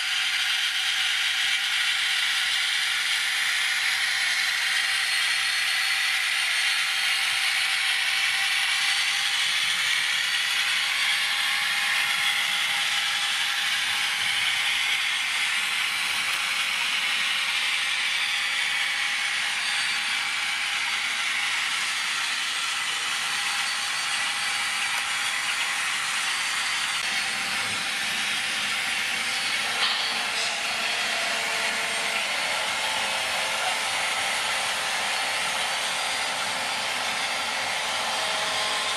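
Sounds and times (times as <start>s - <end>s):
model locomotive diesel engine sound: 0.0s - 38.9s.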